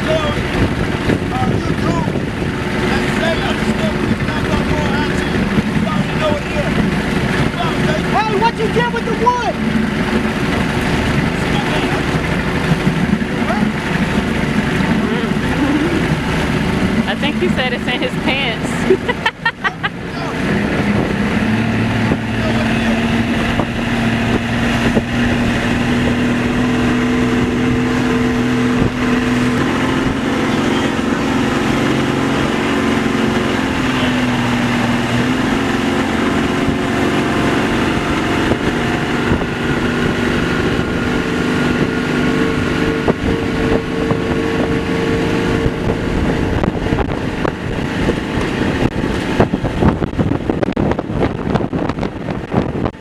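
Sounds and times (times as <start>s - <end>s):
motorboat engine running: 0.0s - 53.0s
wind buffeting microphone: 0.0s - 53.0s.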